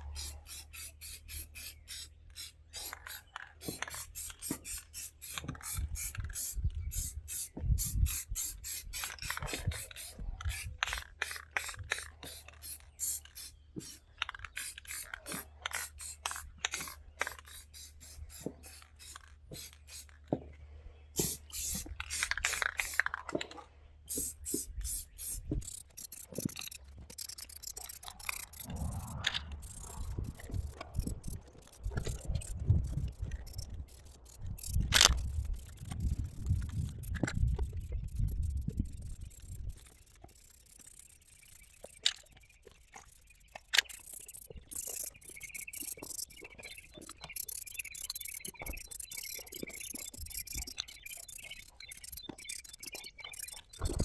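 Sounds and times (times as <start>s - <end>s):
spray can hissing: 0.1s - 14.0s, 14.6s - 20.2s, 21.2s - 23.1s, 24.1s - 54.0s
spray can ball rattling: 0.1s - 20.3s, 21.2s - 23.3s, 24.1s - 54.0s.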